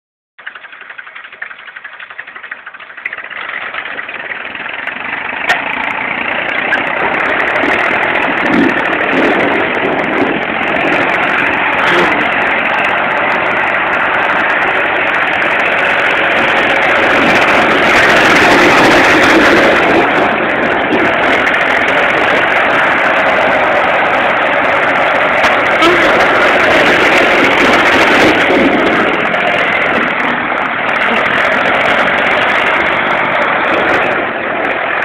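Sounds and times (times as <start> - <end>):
tractor diesel engine running: 0.4 - 35.0.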